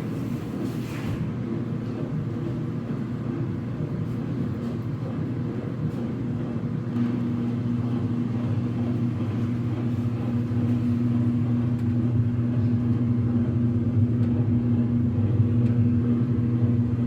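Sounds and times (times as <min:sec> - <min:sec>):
clothes dryer running: 0:00.0 - 0:17.0.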